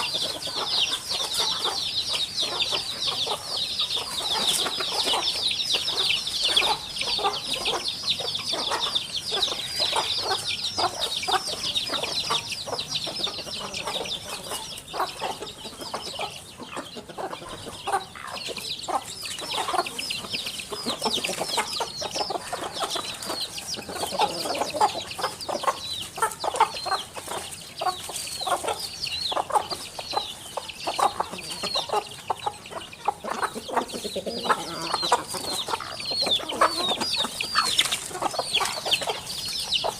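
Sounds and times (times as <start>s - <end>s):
chickens clucking: 0.0s - 39.9s
small birds chirping: 0.0s - 39.9s.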